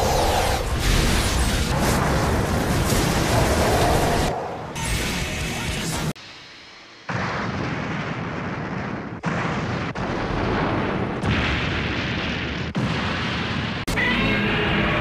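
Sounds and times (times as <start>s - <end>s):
explosion blast and rumble: 0.0s - 6.2s, 7.0s - 15.0s.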